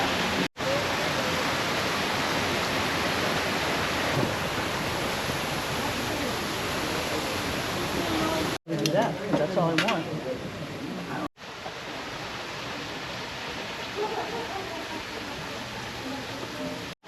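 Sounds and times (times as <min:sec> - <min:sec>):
flowing water: 0:00.0 - 0:17.0.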